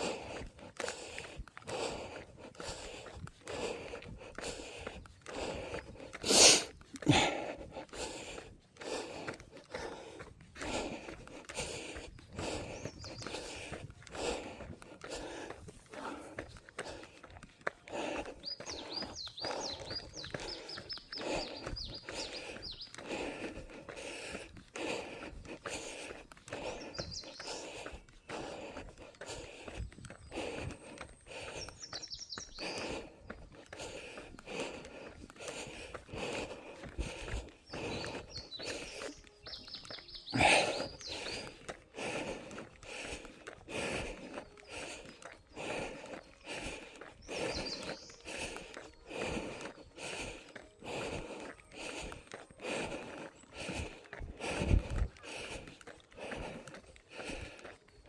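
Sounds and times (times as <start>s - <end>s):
breathing: 0.0s - 58.0s
footsteps: 0.4s - 31.7s, 32.6s - 58.0s.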